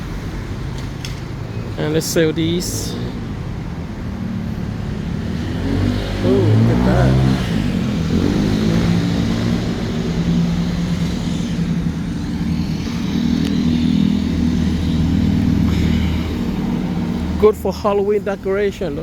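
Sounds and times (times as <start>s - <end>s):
road traffic hum: 0.0s - 19.0s
vehicle engine running: 1.9s - 17.6s.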